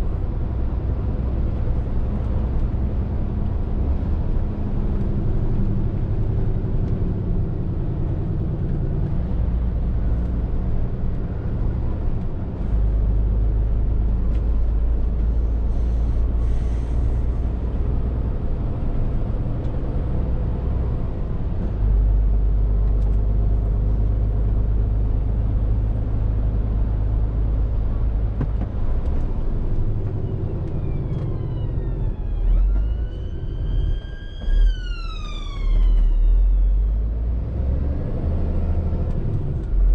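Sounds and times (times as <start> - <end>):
lorry diesel engine drone: 0.0 - 39.9.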